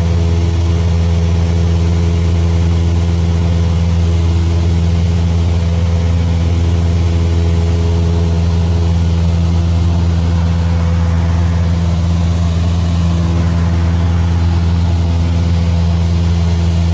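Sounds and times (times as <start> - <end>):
propeller plane engine drone: 0.0 - 16.9.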